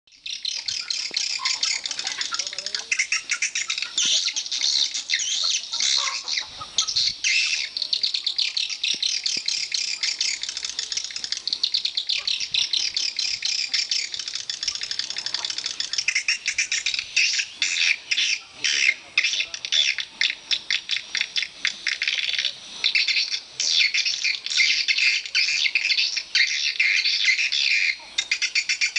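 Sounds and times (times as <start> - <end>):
swiftlets chirping chatter: 0.1 - 28.9.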